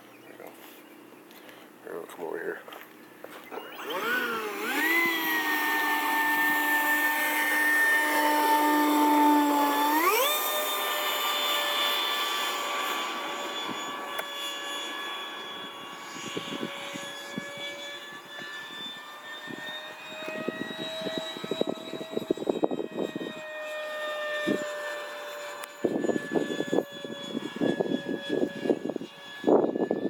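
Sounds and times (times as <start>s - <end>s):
electric ducted fan whine: 0.0s - 30.0s.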